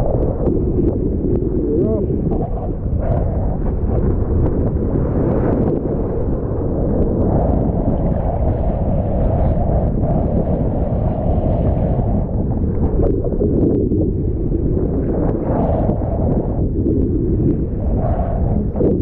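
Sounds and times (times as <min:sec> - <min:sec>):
rough ocean surf: 0:00.0 - 0:19.0
wind buffeting microphone: 0:00.0 - 0:19.0.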